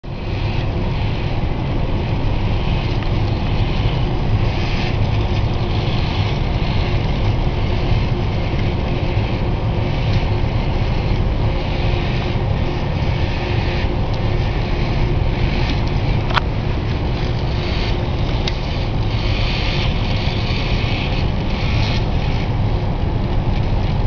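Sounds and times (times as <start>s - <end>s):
toy car motor whirring: 2.2s - 22.8s.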